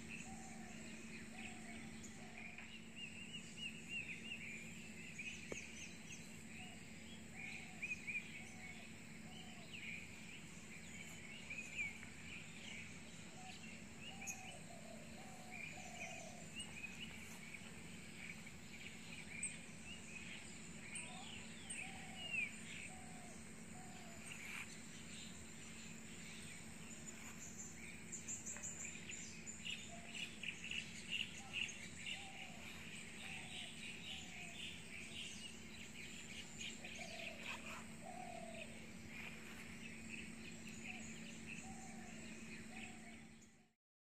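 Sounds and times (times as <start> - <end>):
forest birds chirping: 0.0 - 43.8.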